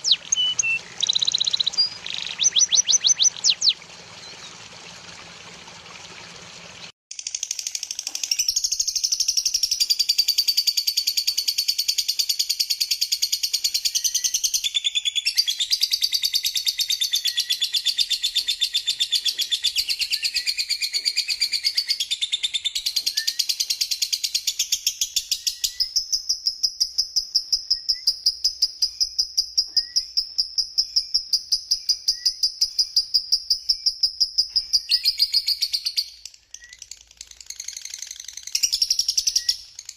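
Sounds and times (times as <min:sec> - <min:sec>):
songbird twittering and trilling: 0:00.0 - 0:04.5, 0:08.2 - 0:39.9.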